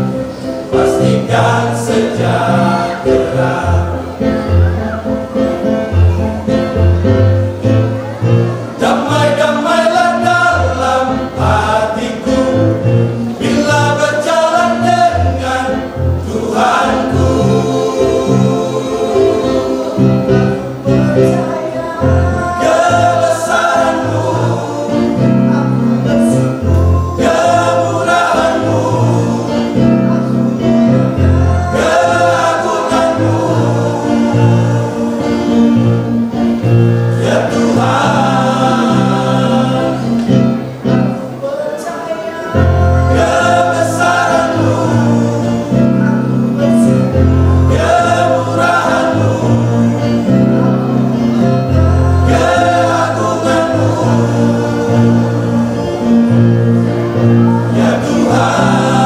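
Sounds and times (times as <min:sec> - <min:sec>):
choir singing sacred song: 0:00.0 - 0:59.0.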